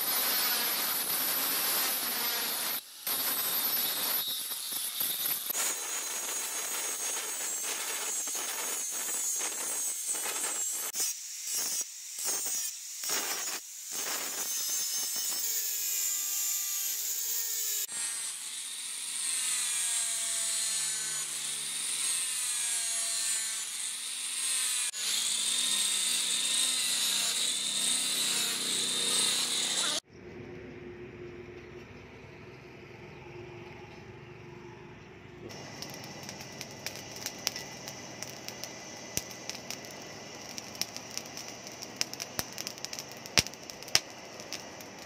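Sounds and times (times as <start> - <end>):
angle grinder grinding steel: 0.0 - 30.0, 35.5 - 45.0
angle grinder sanding metal: 0.0 - 30.0, 35.5 - 45.0.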